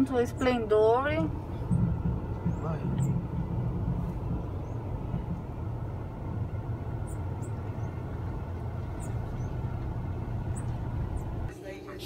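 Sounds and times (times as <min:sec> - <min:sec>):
car engine and tyres rumbling: 0:00.0 - 0:11.5.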